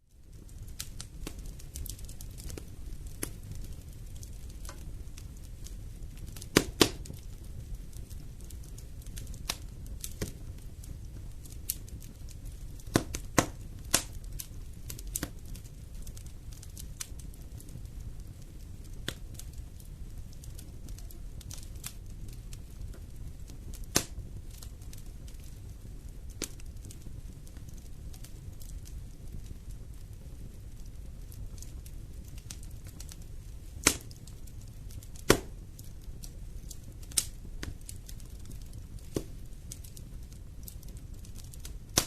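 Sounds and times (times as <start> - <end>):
wood fire crackling and popping: 0.0 - 42.0.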